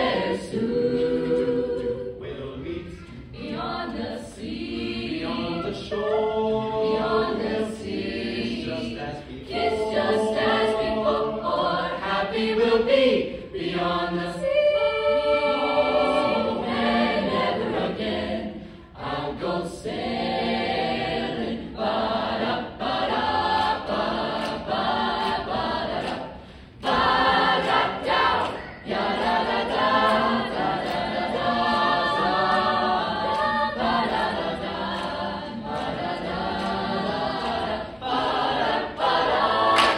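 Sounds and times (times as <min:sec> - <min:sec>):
mixed choir singing in harmony: 0:00.0 - 0:39.9.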